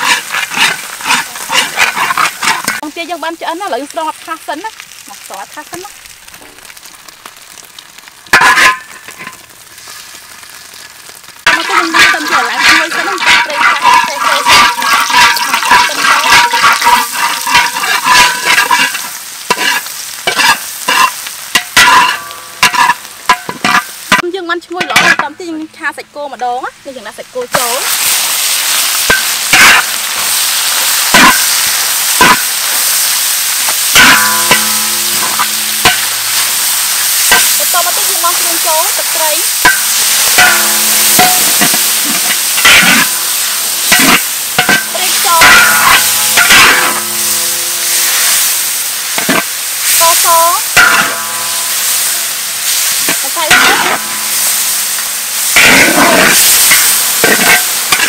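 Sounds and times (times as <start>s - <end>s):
metal spatula scraping wok: 0.0s - 2.9s, 8.3s - 10.5s, 11.3s - 25.4s, 27.5s - 58.0s
meat sizzling in hot oil: 0.0s - 58.0s.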